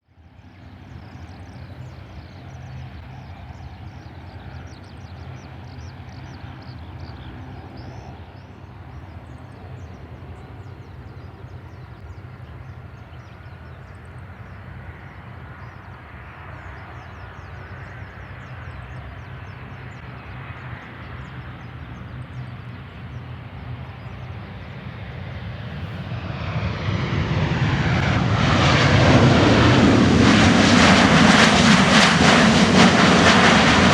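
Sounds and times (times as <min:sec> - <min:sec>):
jet engine rumble: 0:00.1 - 0:33.9.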